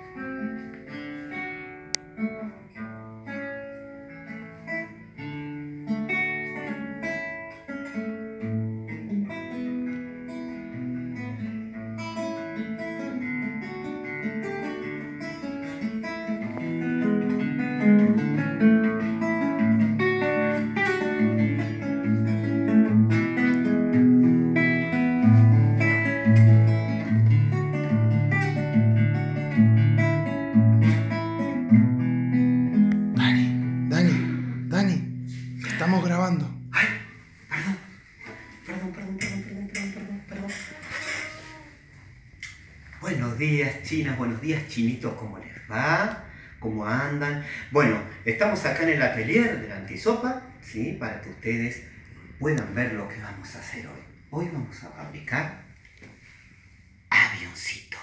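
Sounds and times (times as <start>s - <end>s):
classical acoustic guitar: 0.0s - 57.4s.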